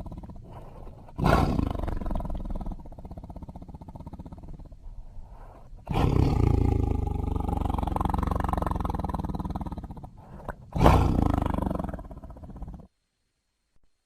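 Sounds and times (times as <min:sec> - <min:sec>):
tiger roaring: 0:00.0 - 0:04.8, 0:05.8 - 0:12.9.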